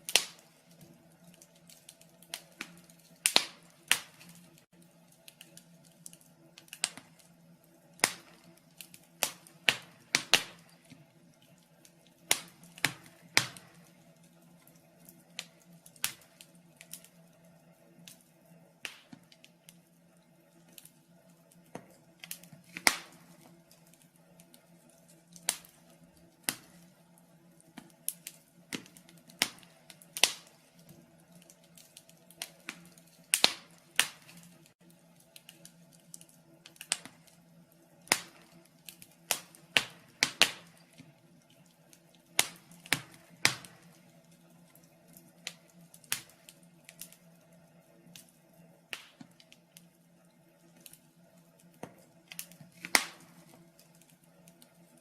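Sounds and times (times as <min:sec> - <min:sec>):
faint steady hum: 0:00.0 - 0:55.0
wood fire crackling and popping: 0:00.0 - 0:55.0.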